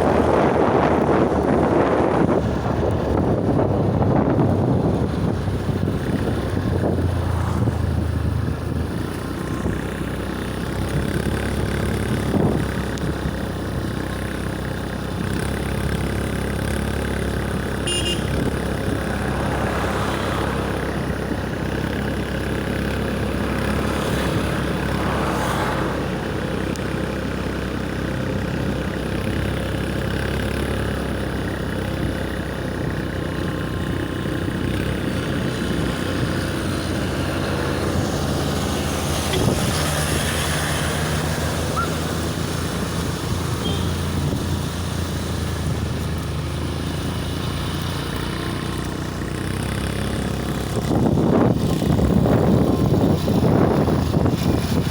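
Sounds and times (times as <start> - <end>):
vehicle motor with road rumble: 0.0 - 54.9.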